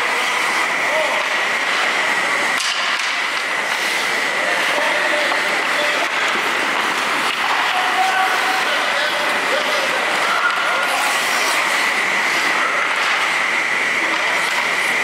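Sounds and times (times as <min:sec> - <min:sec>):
skate blades scraping ice: 0:00.0 - 0:15.0
hockey sticks on puck: 0:00.2 - 0:13.4, 0:14.0 - 0:15.0.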